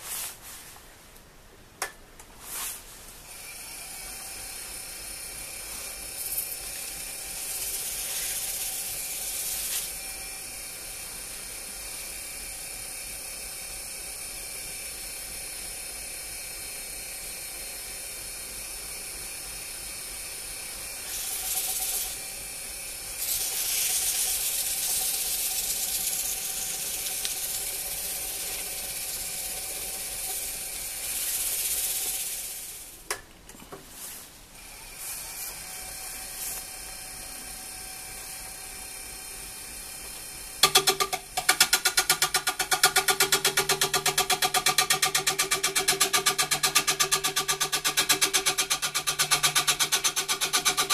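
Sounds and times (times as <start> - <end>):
wood lathe motor running: 3.3 - 15.6, 19.8 - 32.8, 34.6 - 50.9.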